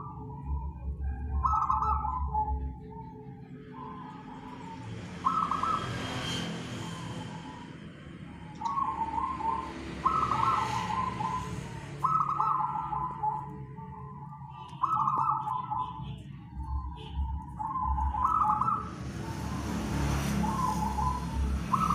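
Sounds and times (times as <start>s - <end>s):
dove cooing: 0.0s - 21.9s.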